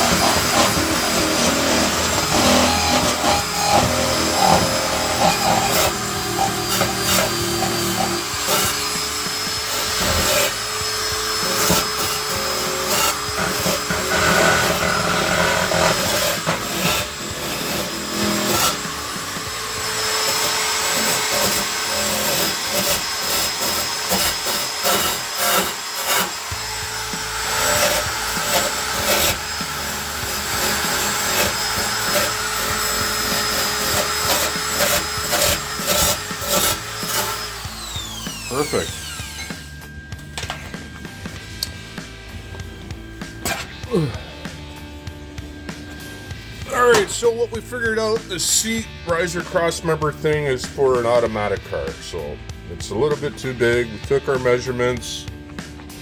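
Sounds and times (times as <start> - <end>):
power tool noise: 0.0 - 47.4.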